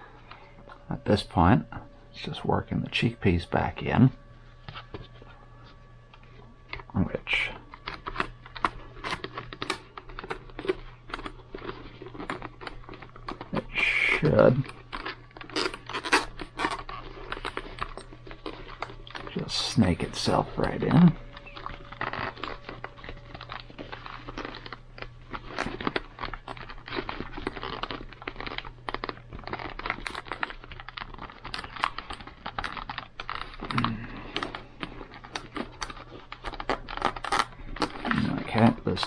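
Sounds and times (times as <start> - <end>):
rustling and scraping: 7.6 - 39.0.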